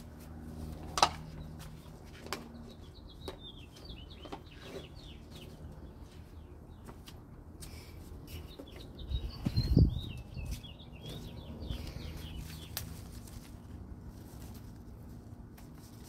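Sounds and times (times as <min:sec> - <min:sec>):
small birds chirping: 0:00.6 - 0:15.3.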